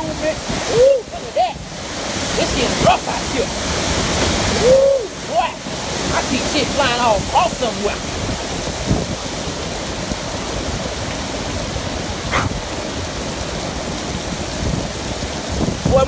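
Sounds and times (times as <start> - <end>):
heavy rain: 0.0 - 16.0
hurricane wind: 0.0 - 16.0
wind buffeting microphone: 0.0 - 16.0.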